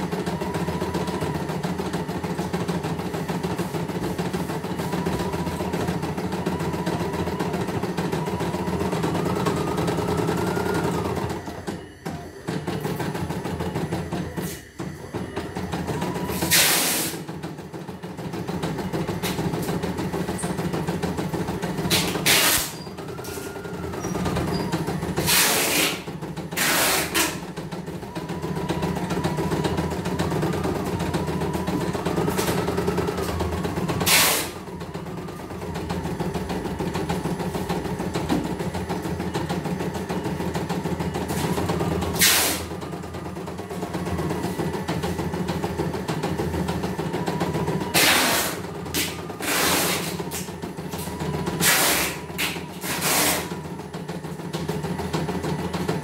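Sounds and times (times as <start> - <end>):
embroidery machine stitching: 0.0 - 56.0.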